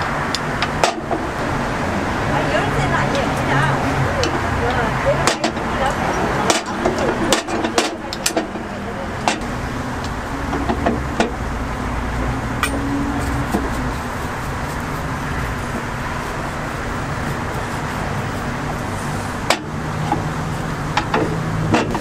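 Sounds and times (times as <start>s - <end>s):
city street traffic: 0.0s - 22.0s.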